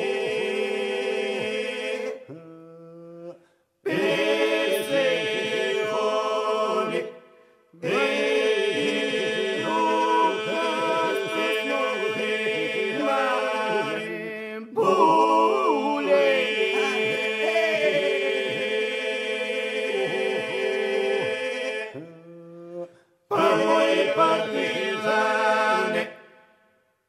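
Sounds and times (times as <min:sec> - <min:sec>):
vocal ensemble singing polyphony: 0:00.0 - 0:02.6, 0:03.2 - 0:26.6.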